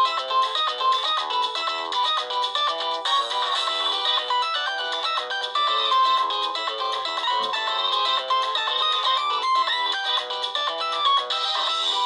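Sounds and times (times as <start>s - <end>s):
mobile phone ringtone melody: 0.0s - 12.0s.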